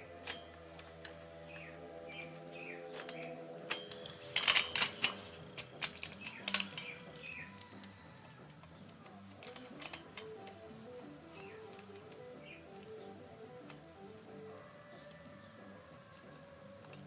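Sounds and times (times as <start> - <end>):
metal tools clinking: 0.0 - 14.0, 16.1 - 17.0
background music: 0.0 - 17.0.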